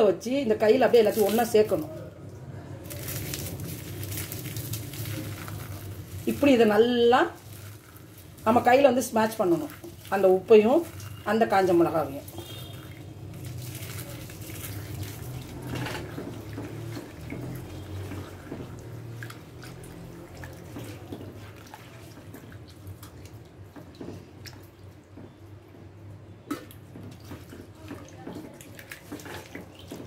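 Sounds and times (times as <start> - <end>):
water dripping: 0.9 - 25.4.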